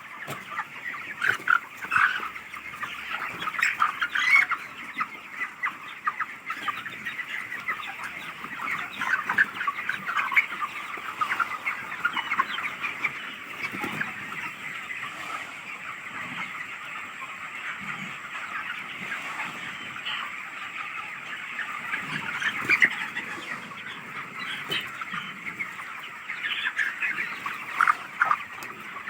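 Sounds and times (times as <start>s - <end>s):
chickens clucking and peeping: 0.0s - 29.0s.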